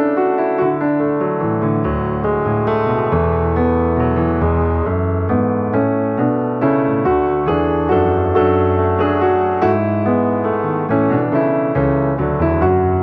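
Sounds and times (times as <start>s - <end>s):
piano playing: 0.0s - 13.0s.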